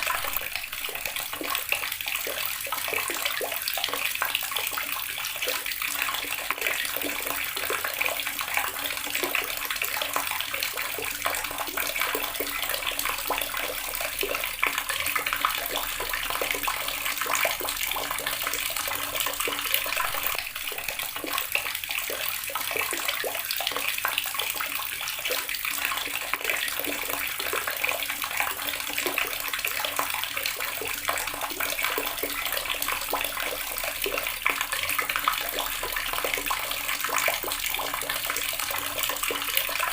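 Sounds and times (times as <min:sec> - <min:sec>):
tap water splashing into basin: 0:00.0 - 0:39.9.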